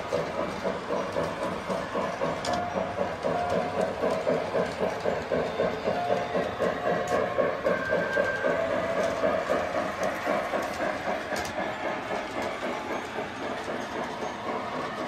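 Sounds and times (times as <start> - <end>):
toy train wheels clattering: 0.0 - 15.0.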